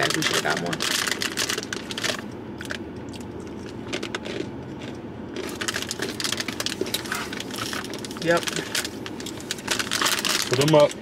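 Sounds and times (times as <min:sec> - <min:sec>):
pretzels being chewed: 0:00.0 - 0:11.0.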